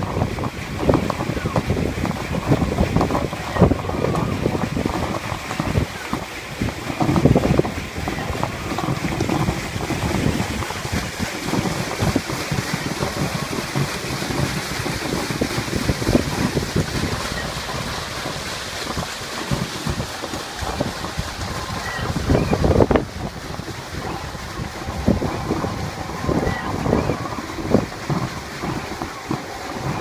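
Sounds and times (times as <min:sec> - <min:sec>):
paddlewheel churning water: 0:00.0 - 0:30.0
wind buffeting microphone: 0:00.0 - 0:30.0.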